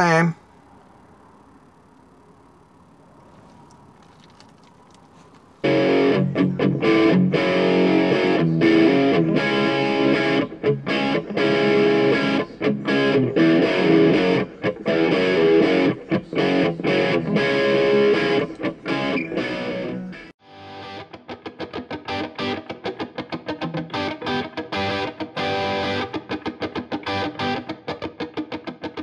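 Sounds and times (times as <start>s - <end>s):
distorted electric guitar music: 5.6s - 29.0s.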